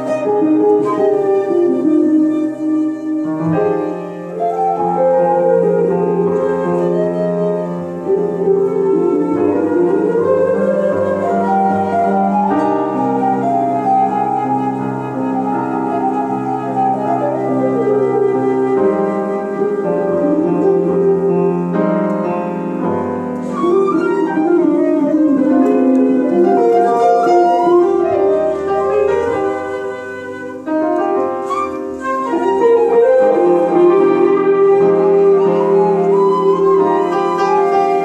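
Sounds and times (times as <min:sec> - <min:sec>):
flute melody: 0:00.0 - 0:38.0
piano chords: 0:00.0 - 0:38.0.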